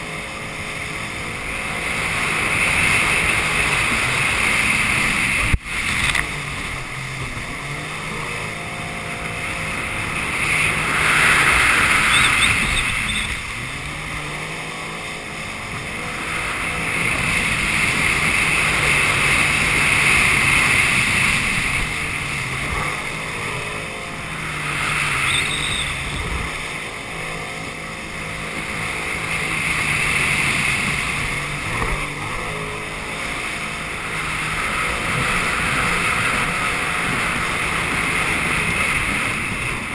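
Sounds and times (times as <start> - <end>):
jet ski engine running: 0.0 - 39.9
wind over microphone: 0.0 - 39.9.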